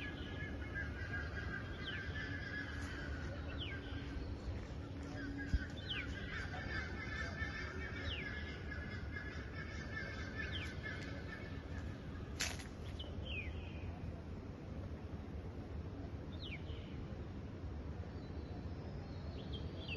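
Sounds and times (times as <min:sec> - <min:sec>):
steady background noise: 0:00.0 - 0:19.9.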